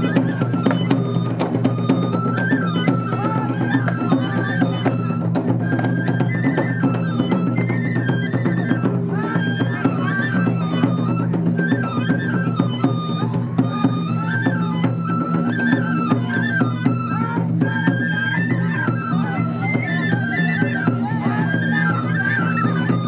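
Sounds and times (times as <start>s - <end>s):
bamboo flute melody: 0.0s - 23.0s.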